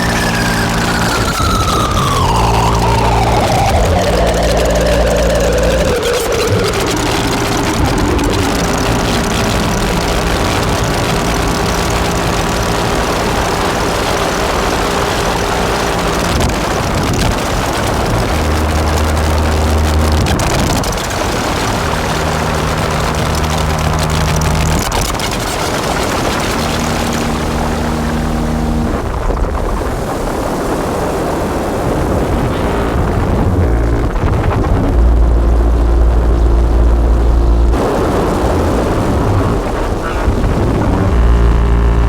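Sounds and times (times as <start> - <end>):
distorted synthesizer drone: 0.0 - 42.0.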